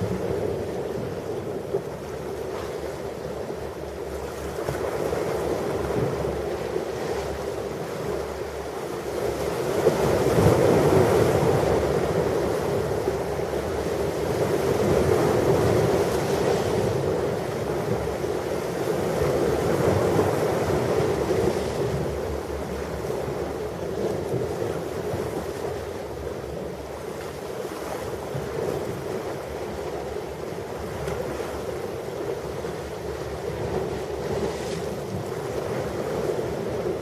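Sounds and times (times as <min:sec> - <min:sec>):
waves breaking on a beach: 0:00.0 - 0:37.0.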